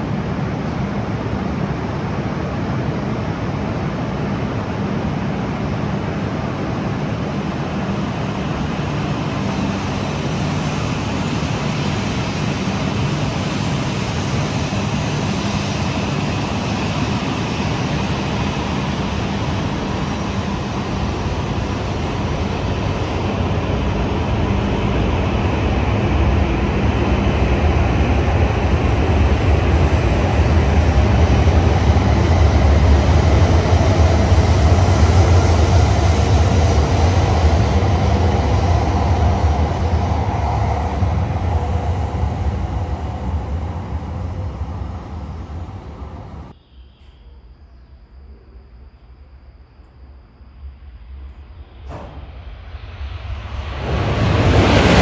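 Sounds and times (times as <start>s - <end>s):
train pulling away rumble: 0.0s - 46.6s, 50.8s - 55.0s
train hum and rush: 0.0s - 55.0s.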